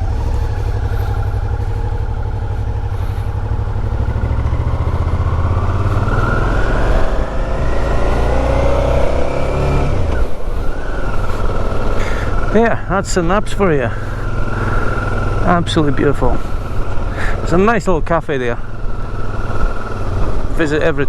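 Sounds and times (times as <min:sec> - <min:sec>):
motorcycle engine accelerating: 0:00.0 - 0:21.0
wind and road noise: 0:00.0 - 0:21.0.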